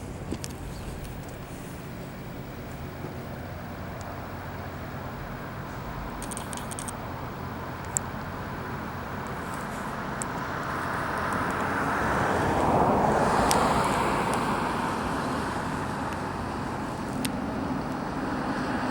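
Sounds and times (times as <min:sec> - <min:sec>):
road vehicle passing by: 0:00.0 - 0:18.9.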